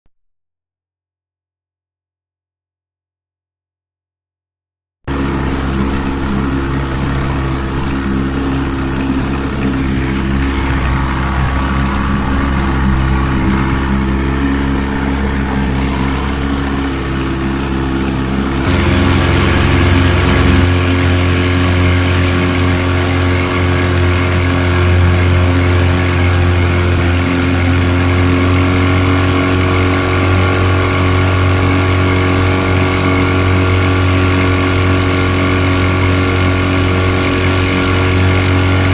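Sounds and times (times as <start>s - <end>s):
outboard motor running: 5.1s - 38.9s.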